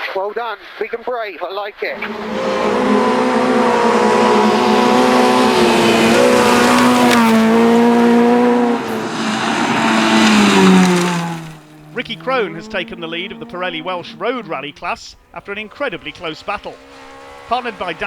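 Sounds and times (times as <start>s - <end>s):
rally car engine at high revs: 2.0s - 18.0s.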